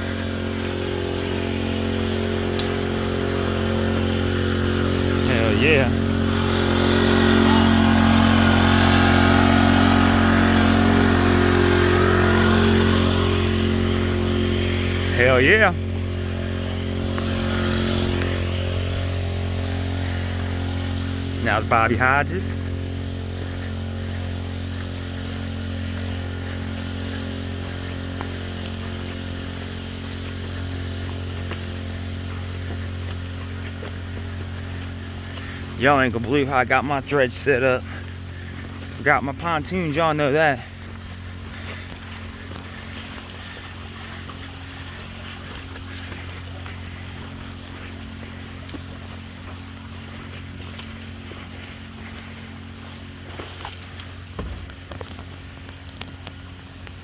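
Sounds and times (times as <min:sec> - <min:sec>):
water pump engine running: 0:00.0 - 0:57.0.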